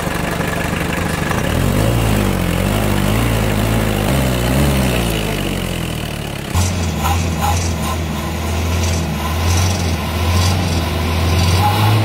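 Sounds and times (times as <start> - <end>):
diesel engine exhaust running: 0.0 - 12.0.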